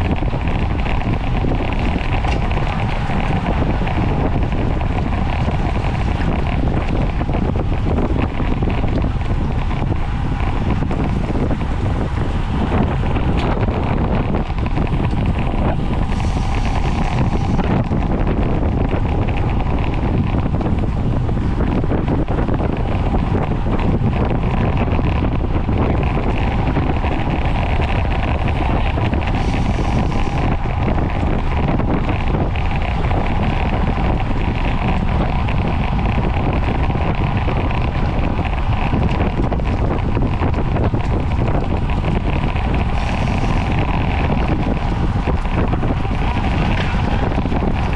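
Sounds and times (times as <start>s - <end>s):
tyre and road noise: 0.0s - 47.9s
wind rushing over microphone: 0.0s - 47.9s.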